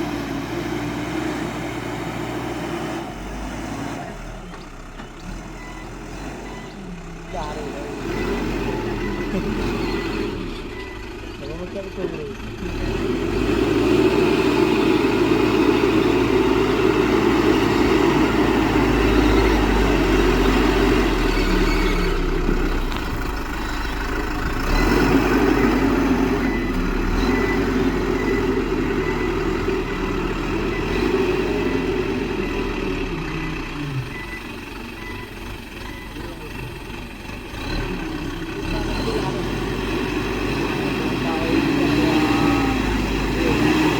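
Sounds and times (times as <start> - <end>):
heavy machinery diesel engine: 0.0 - 43.9.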